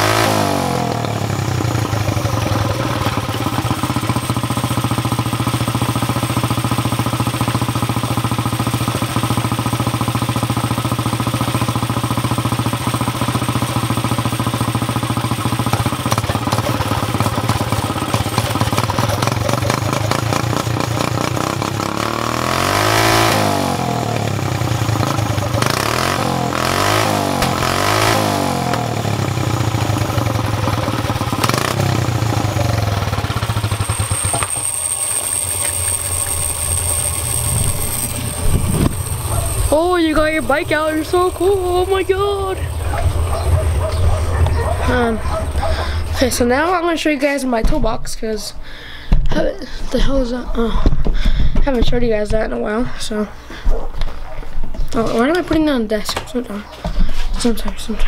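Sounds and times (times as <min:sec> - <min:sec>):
go-kart engine revving: 0:00.0 - 0:50.8.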